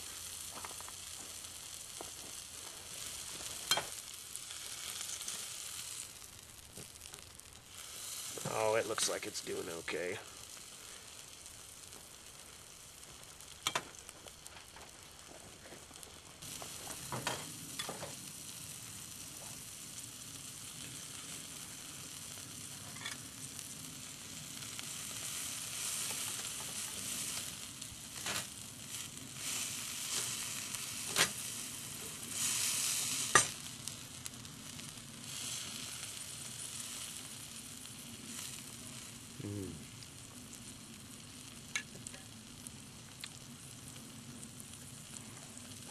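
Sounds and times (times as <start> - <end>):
steak sizzling on a grill: 0.0 - 45.9.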